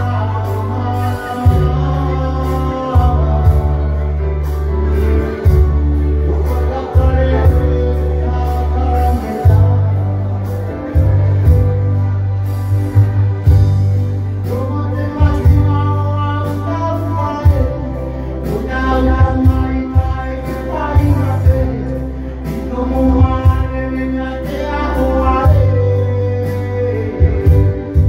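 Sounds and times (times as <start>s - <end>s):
man singing into microphone: 0.0s - 12.1s, 14.2s - 28.0s.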